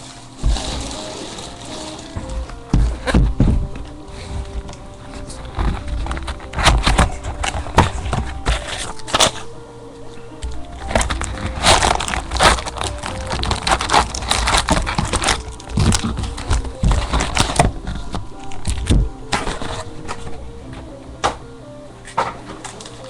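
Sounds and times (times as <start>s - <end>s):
cardboard and wrappers crinkling: 0.0s - 9.5s, 10.1s - 20.9s, 22.2s - 23.0s
faint background music: 0.0s - 23.0s.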